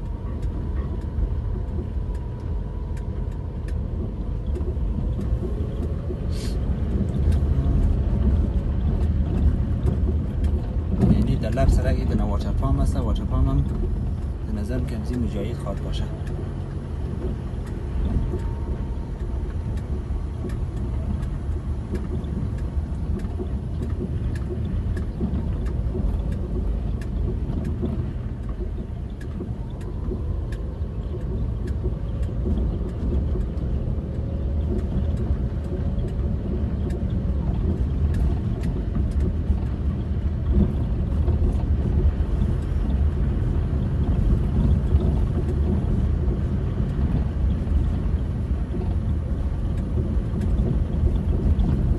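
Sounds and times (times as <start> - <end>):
car driving on dirt road: 0.0 - 51.9
light ticks: 0.0 - 51.9.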